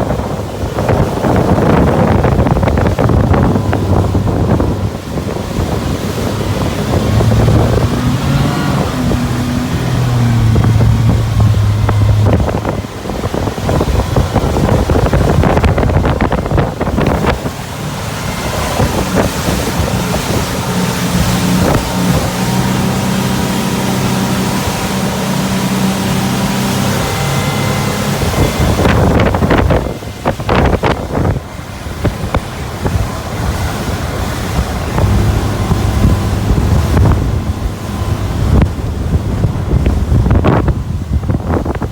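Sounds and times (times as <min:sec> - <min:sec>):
boat engine humming: 0:00.0 - 0:41.9
rushing water: 0:00.0 - 0:41.9
wind buffeting microphone: 0:00.0 - 0:41.9.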